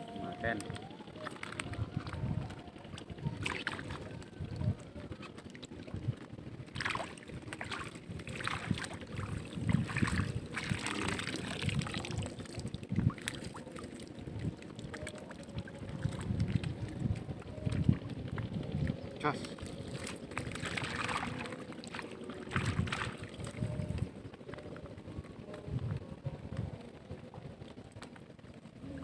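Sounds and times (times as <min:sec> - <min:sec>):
water splashing and sloshing: 0:00.0 - 0:29.0
wind rumble on microphone: 0:00.0 - 0:29.0.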